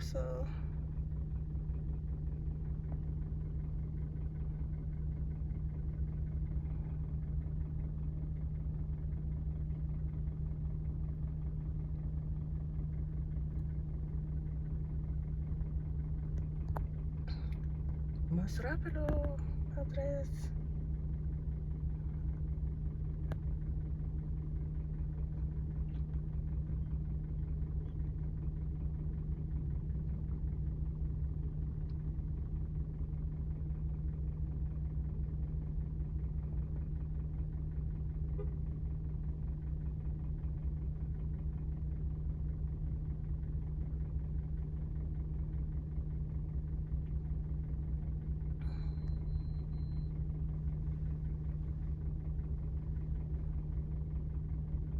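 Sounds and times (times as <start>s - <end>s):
vehicle engine drone: 0.0s - 54.9s.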